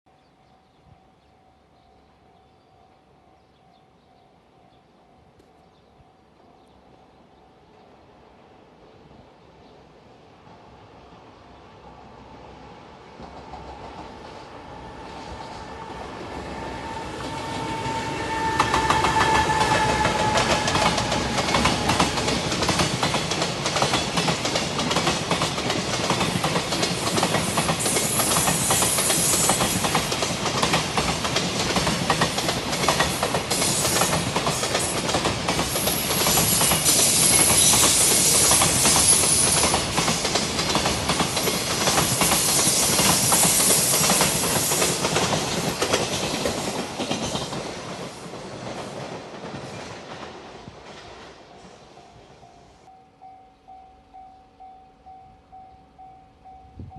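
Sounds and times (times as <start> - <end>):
freight train passing: 0.4 - 56.9.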